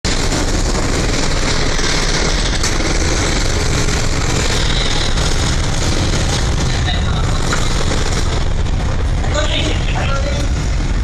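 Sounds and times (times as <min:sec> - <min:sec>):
deep rumble: 0:00.0 - 0:11.0
loud rushing noise: 0:00.0 - 0:11.0.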